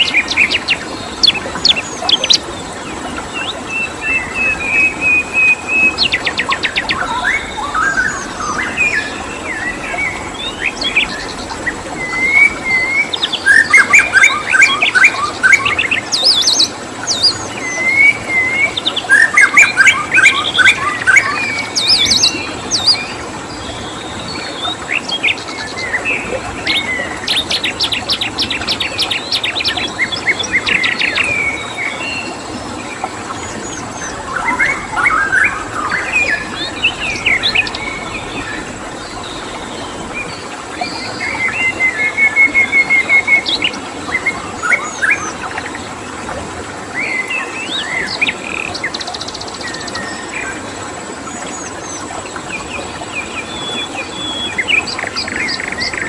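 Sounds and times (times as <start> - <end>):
birds chirping and trilling: 0.0 - 46.1, 47.0 - 56.0
steady background hiss: 0.0 - 56.0.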